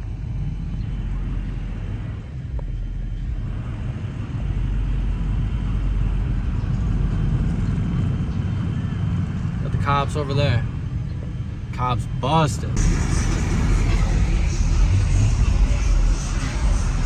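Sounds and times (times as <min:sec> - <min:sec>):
road noise: 0:00.0 - 0:17.0
truck engine rumble: 0:00.0 - 0:17.0.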